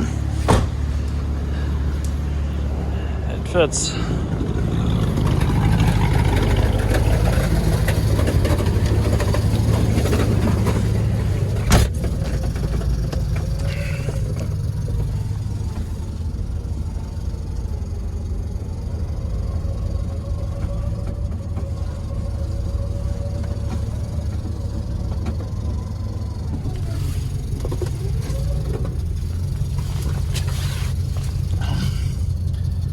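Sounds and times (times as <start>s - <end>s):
car engine running: 0.0s - 32.9s.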